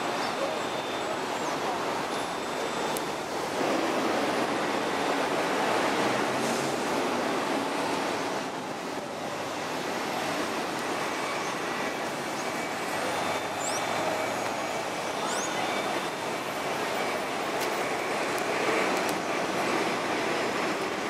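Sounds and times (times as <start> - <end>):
road noise of passing traffic: 0.0 - 21.0.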